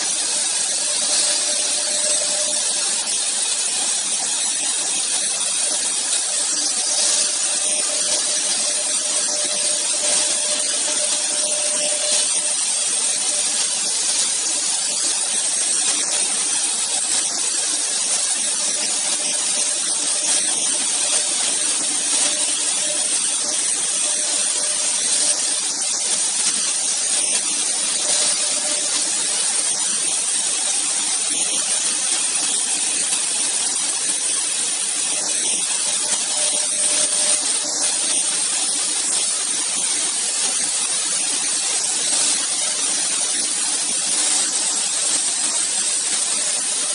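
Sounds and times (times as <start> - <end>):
router cutting wood: 0.0 - 46.9.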